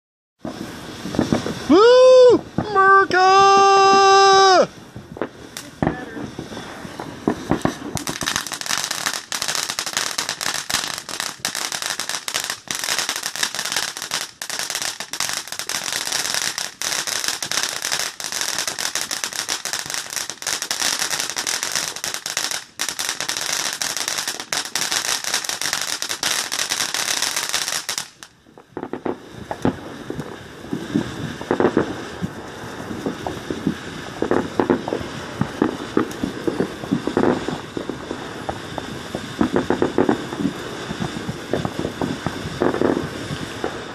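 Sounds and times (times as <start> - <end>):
firework fountain hissing and crackling: 0.4 - 43.9.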